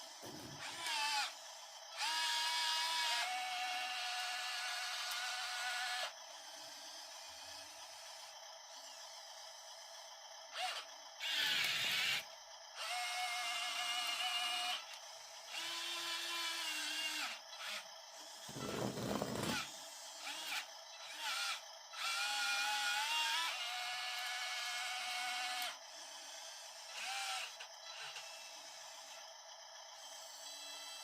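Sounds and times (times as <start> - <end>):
small electric motors whining: 0.0 - 31.0.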